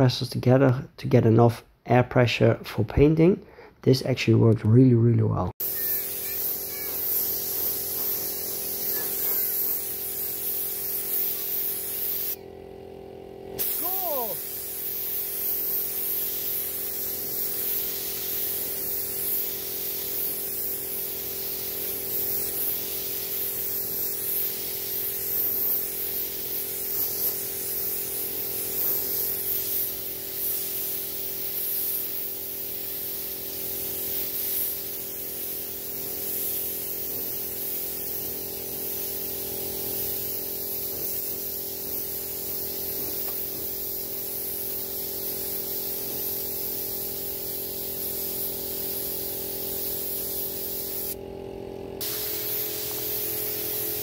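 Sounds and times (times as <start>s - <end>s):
spray gun hissing: 5.6s - 12.4s, 13.5s - 51.2s, 52.0s - 54.0s.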